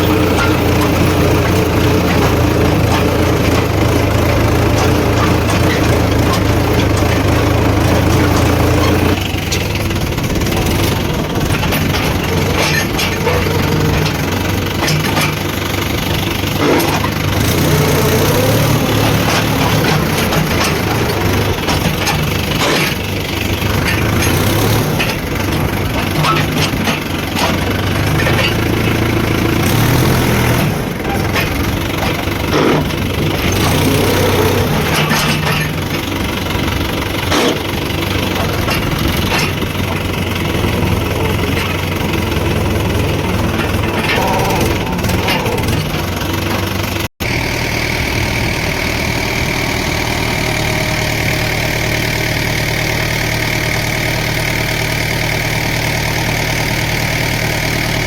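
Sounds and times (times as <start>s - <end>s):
metal clanks and knocks: 0.0s - 47.1s
heavy machinery diesel engines running: 0.0s - 58.0s.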